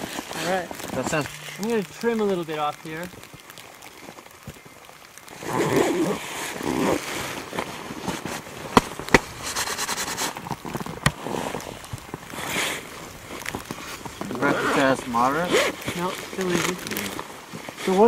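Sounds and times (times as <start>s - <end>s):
jacket rustling and crackling: 0.0s - 18.0s.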